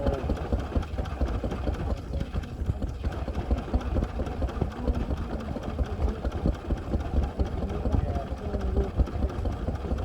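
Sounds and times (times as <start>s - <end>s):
stationary engine idling: 0.0s - 10.0s.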